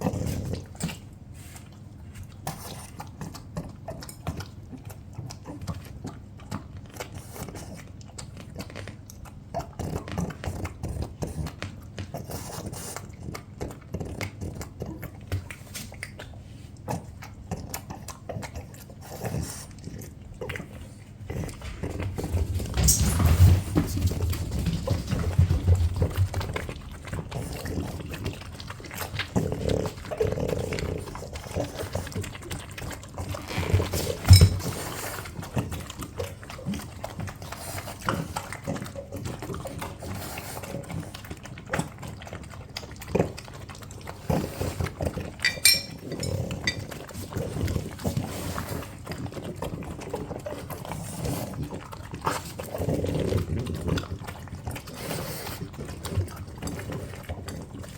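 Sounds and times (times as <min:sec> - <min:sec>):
dogs snuffling and chewing: 0:00.0 - 0:57.9.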